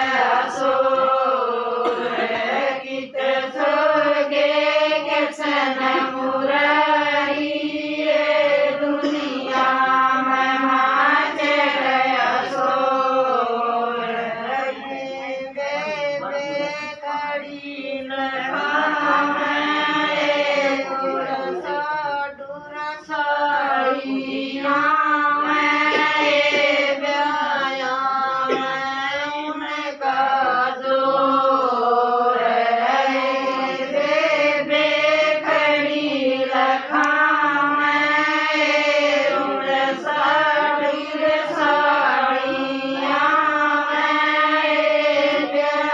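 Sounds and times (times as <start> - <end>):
women singing devotional song: 0.0 - 45.9.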